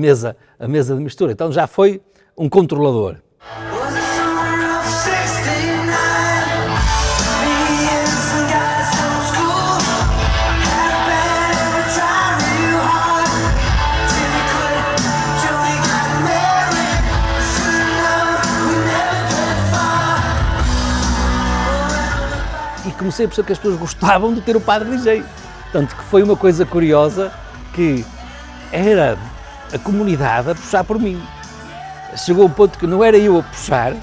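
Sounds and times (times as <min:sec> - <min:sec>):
music with singing voice: 0:03.4 - 0:34.0.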